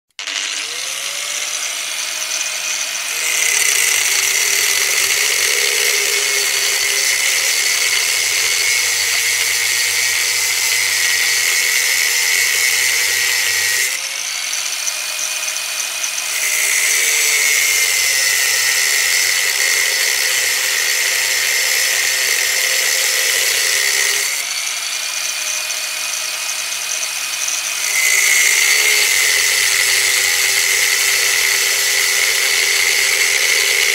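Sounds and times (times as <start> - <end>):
angle grinder cutting metal: 0.1 - 33.9.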